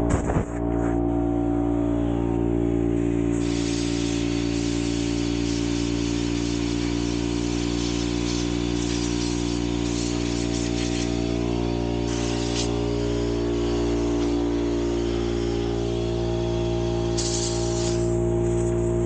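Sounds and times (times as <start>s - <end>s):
machine humming: 0.0s - 19.0s
hiss: 3.3s - 18.8s.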